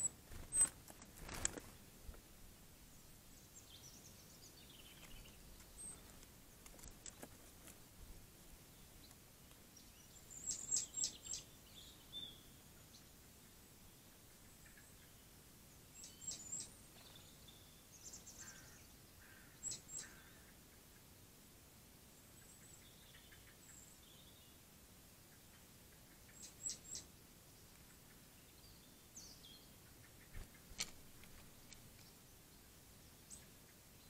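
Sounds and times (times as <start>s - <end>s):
small birds chirping: 0.0s - 21.4s, 22.0s - 34.0s
quiet hiss: 0.0s - 34.0s.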